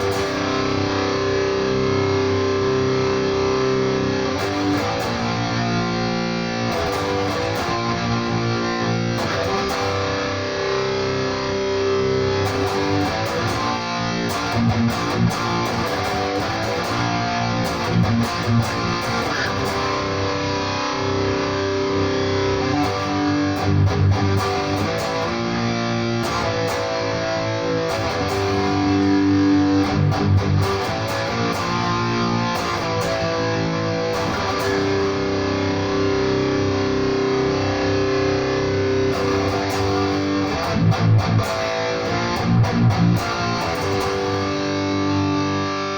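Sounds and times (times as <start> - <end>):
distorted electric guitar: 0.0 - 45.9.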